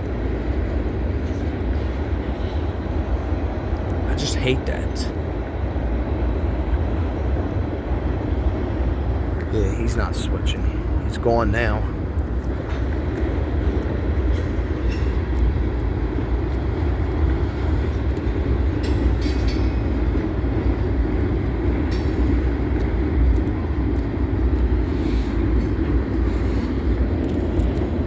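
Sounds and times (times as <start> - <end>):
freight train rumbling: 0.0 - 28.0.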